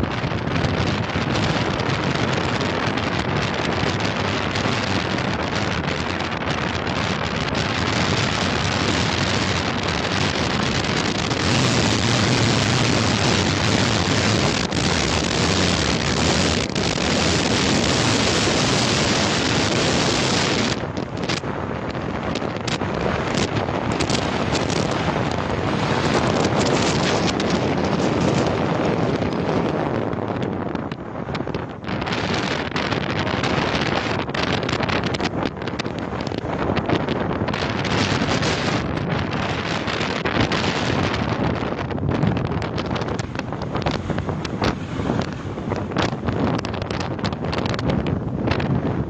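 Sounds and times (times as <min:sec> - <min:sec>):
road and engine noise: 0:00.0 - 0:49.0
wind rushing over microphone: 0:00.0 - 0:49.0.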